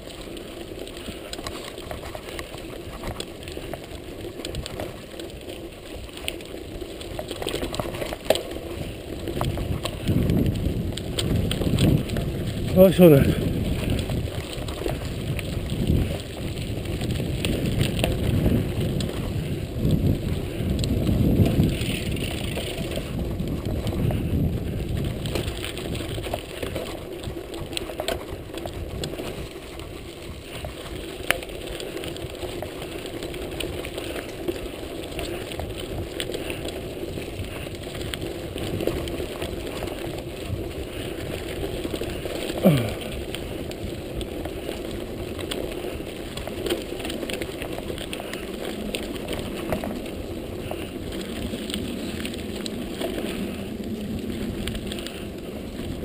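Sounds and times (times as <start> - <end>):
bike rattling: 0.0 - 56.0
bike tyres rolling over gravel: 0.0 - 56.0.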